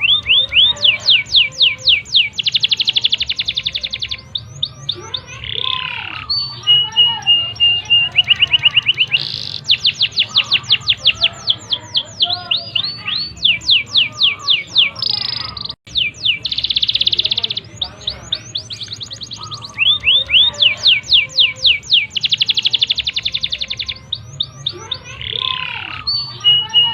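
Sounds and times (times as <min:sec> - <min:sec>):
canary singing: 0:00.0 - 0:26.9.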